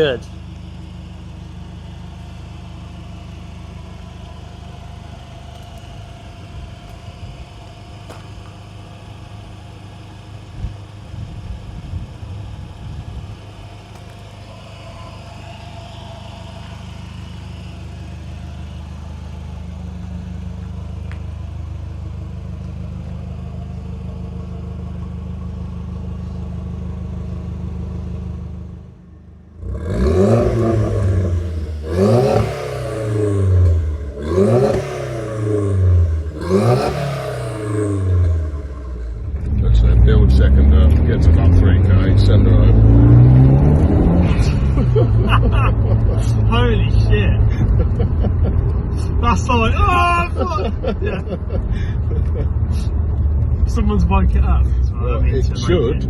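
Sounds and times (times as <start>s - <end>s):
turbocharged car engine running: 0.0s - 56.0s.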